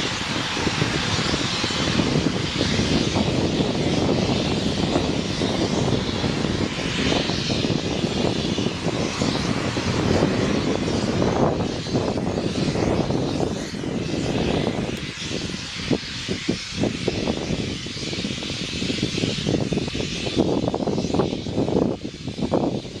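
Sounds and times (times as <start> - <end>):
gas rushing jet-like roar: 0.0 - 23.0.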